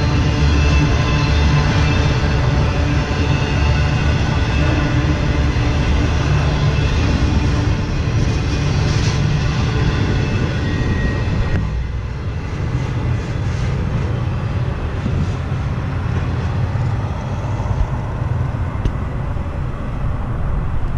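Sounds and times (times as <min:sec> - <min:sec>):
freight train rolling on rails: 0:00.0 - 0:20.9.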